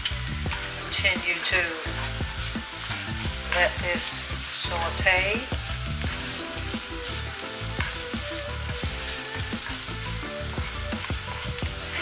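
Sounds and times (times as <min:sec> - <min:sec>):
onion sizzling in frying pan: 0:00.0 - 0:12.0.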